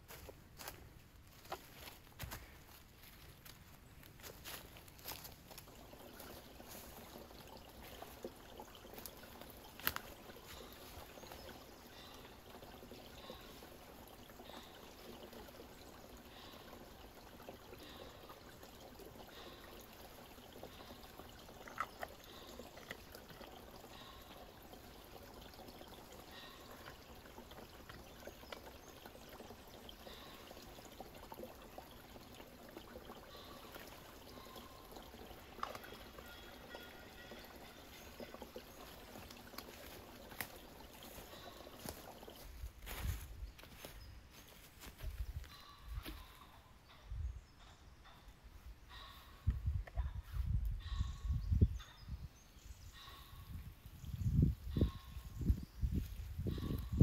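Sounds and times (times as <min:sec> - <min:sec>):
water trickling: 0:00.1 - 0:48.0.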